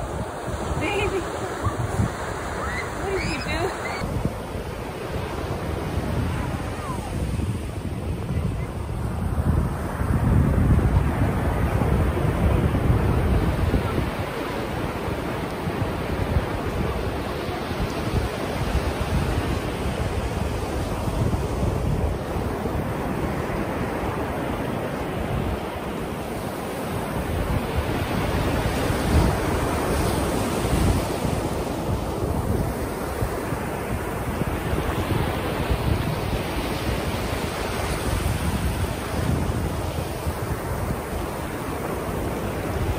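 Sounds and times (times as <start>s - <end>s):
ocean surf breaking: 0.0s - 42.9s
wind rumbling on microphone: 0.0s - 42.9s.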